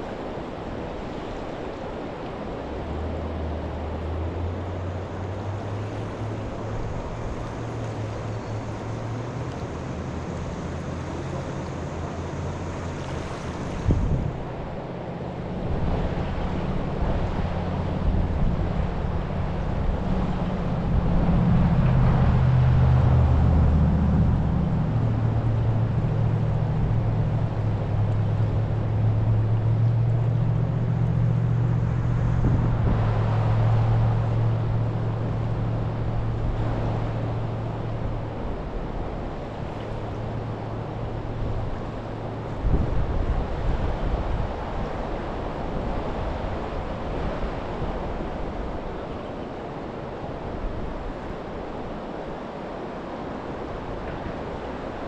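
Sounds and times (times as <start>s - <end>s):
low engine hum: 0.0s - 55.0s.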